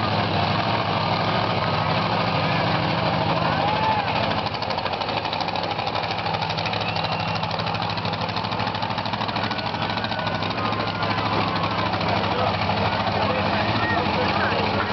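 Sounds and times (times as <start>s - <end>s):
truck engine misfiring: 0.0s - 14.9s.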